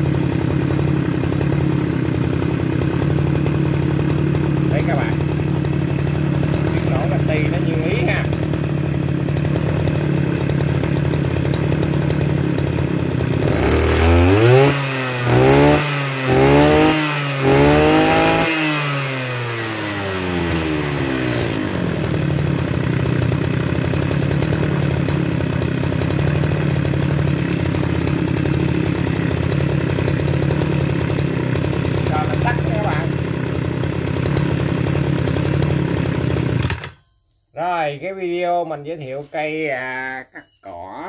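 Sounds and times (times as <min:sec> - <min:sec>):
brush-cutter engine idling and revving: 0:00.0 - 0:37.1.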